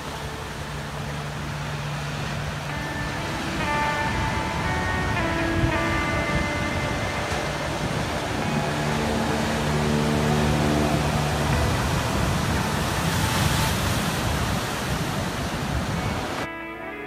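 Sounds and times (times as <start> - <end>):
ocean surf breaking on rocks: 0.0 - 16.5
soft sustained music tones: 0.0 - 17.0.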